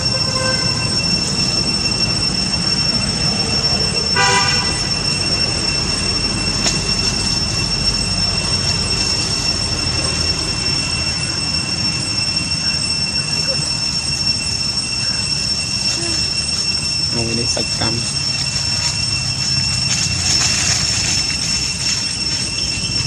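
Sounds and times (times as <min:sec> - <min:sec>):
high-pitched insect drone: 0:00.0 - 0:23.0
rumbling background: 0:00.0 - 0:23.0.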